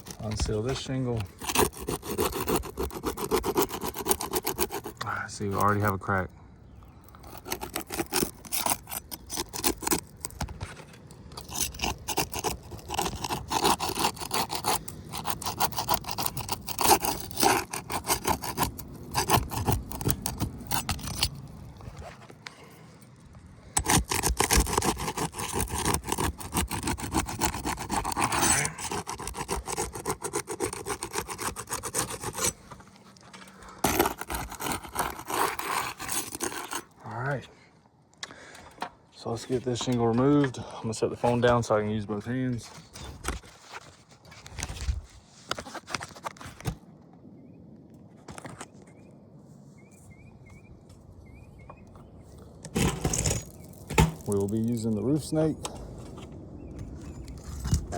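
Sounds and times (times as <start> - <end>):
tool scraping under asphalt shingle: 0.0 - 37.0, 39.3 - 46.8, 52.4 - 57.9.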